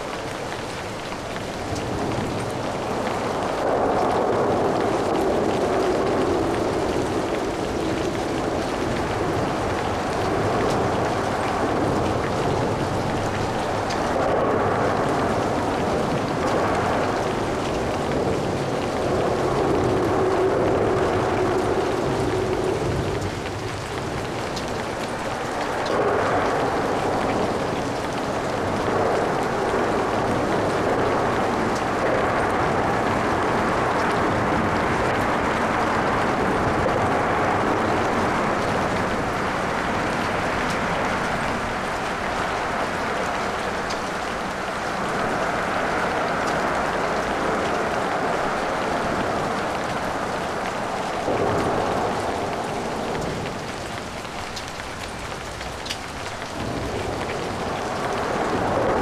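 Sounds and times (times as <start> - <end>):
steady rain: 0.0 - 59.0
tyres hissing on wet road: 0.0 - 59.0.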